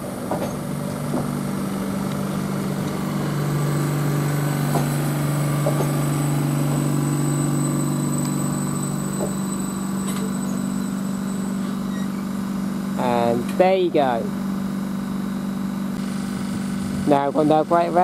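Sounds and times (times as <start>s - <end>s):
train low hum: 0.0s - 18.0s
thin high whine: 0.4s - 18.0s.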